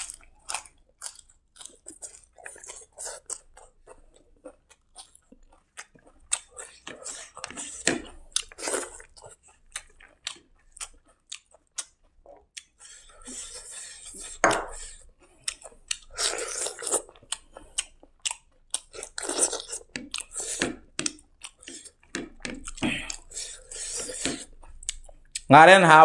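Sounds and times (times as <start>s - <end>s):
chewing and wet mouth smacks: 0.0s - 25.5s.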